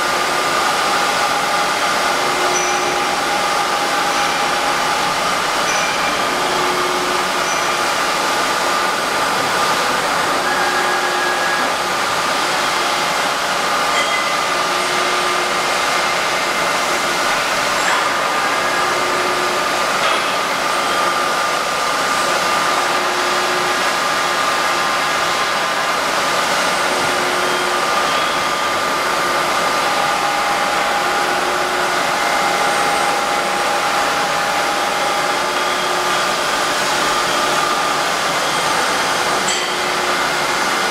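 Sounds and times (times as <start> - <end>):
milling machine whirring hum: 0.0 - 40.9.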